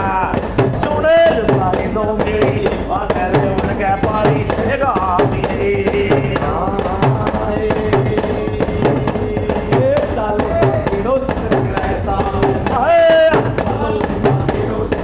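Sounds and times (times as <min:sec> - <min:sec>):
sharp percussive beats: 0:00.0 - 0:15.0
voices singing devotional music: 0:00.0 - 0:15.0.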